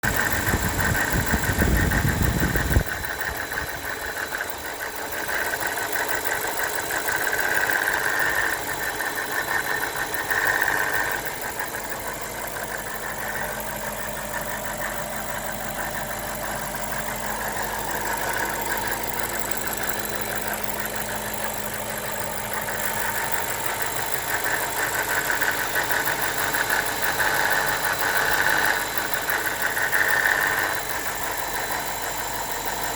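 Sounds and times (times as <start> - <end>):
engine idling with fast rattle: 0.0 - 32.9.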